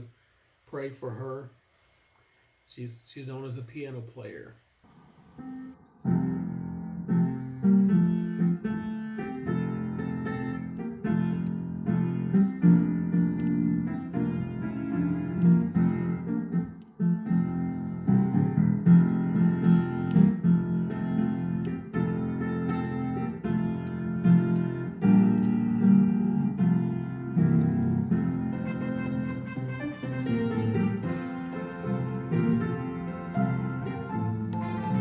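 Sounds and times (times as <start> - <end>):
piano music: 5.4 - 35.0.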